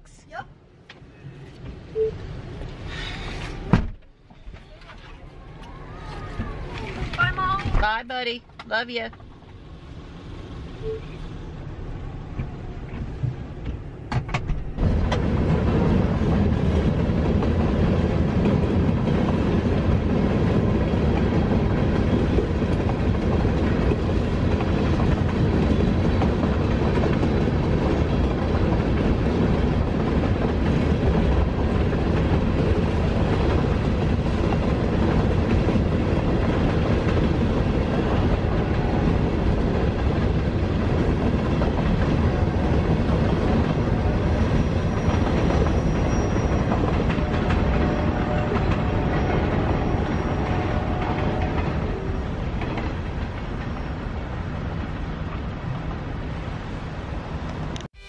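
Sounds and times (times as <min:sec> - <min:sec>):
freight train rolling past: 0:04.3 - 0:58.0.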